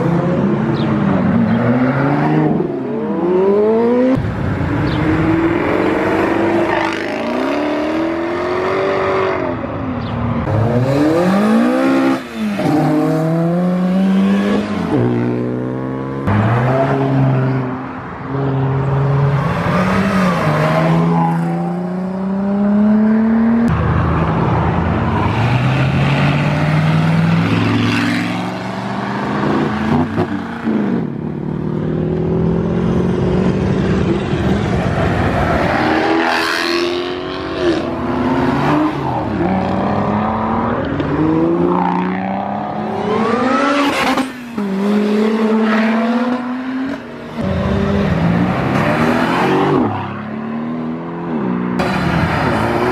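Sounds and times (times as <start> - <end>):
cars accelerating hard: 0.0 - 52.9.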